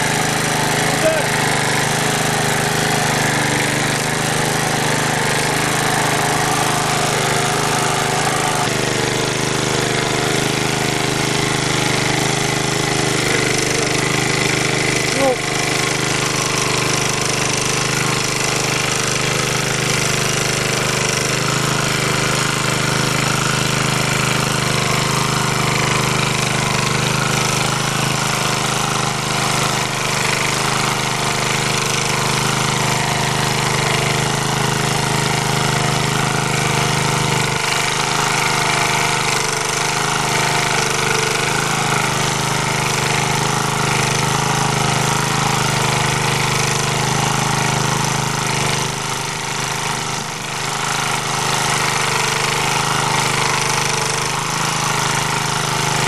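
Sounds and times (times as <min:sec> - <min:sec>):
rotary tiller churning soil: 0:00.0 - 0:56.0
walk-behind tractor engine running: 0:00.0 - 0:56.0.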